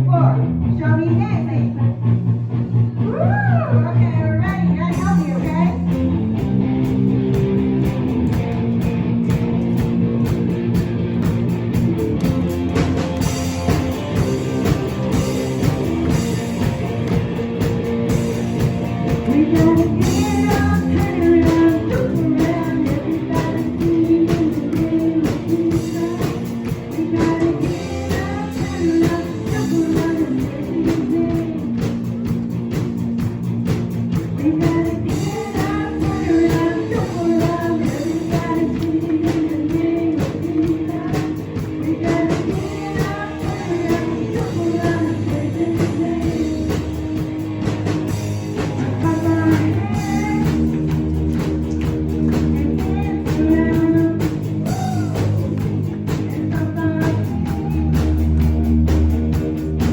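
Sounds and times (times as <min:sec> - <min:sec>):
song with guitar and drums: 0:04.4 - 0:59.9.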